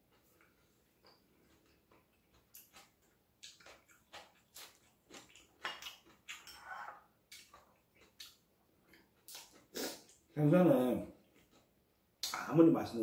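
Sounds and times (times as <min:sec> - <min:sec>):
person chewing: 0:00.0 - 0:10.3, 0:11.2 - 0:12.4.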